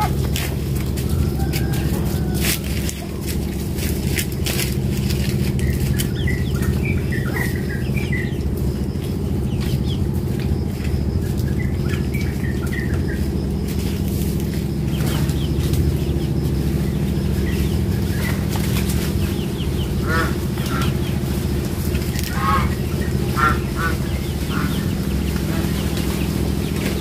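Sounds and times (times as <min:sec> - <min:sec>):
birds chirping: 0:00.0 - 0:27.0
loud steady low hum: 0:00.0 - 0:27.0.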